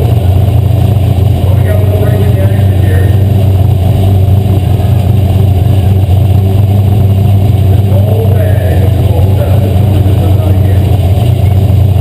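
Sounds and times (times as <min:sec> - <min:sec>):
race car engine running hard: 0:00.0 - 0:12.0.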